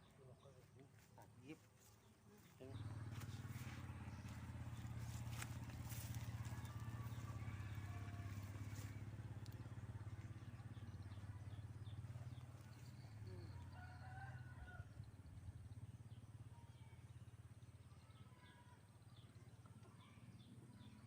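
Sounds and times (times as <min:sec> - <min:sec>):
low pulsing engine hum: 0:00.0 - 0:21.0.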